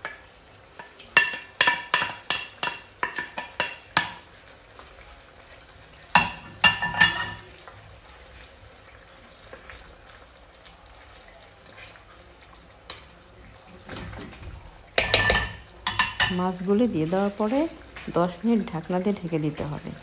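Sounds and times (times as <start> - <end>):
curry simmering sizzle: 0.0 - 20.0.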